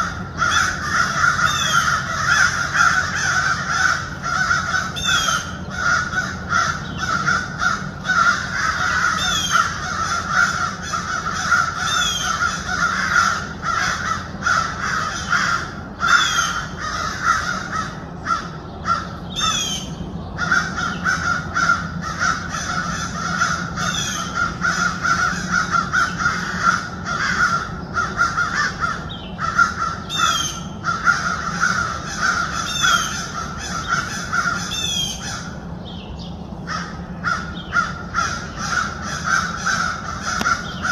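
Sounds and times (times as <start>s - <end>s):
harsh animal calls: 0.0s - 40.9s.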